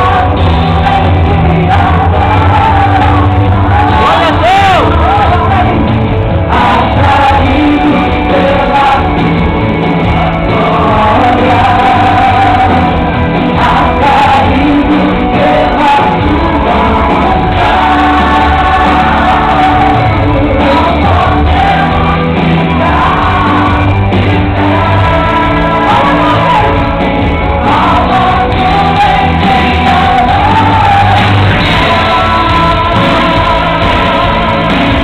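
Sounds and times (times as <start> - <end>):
woman singing gospel song: 0.0 - 5.9, 6.5 - 9.3, 10.5 - 26.9, 27.6 - 35.0
loud amplified backing music: 0.0 - 35.0.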